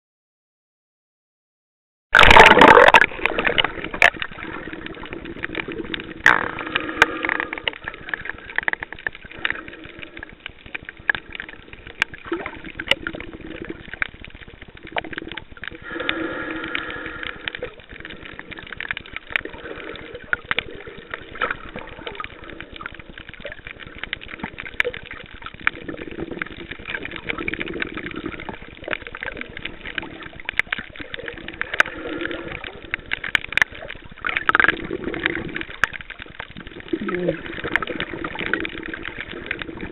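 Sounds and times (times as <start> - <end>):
muffled underwater wash: 2.2 - 39.9
muffled water swells: 2.2 - 39.9
sharp underwater clicks and crackles: 2.2 - 39.9.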